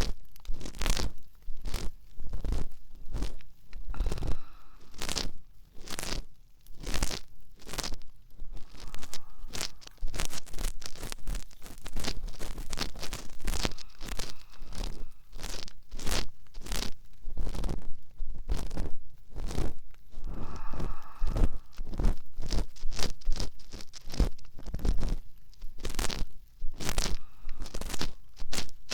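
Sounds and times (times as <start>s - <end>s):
tool scraping inside ear: 1.7s - 25.2s, 25.8s - 28.9s.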